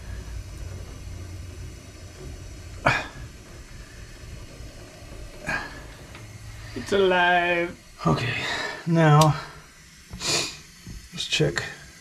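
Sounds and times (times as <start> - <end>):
transformer hum: 0.0 - 12.0.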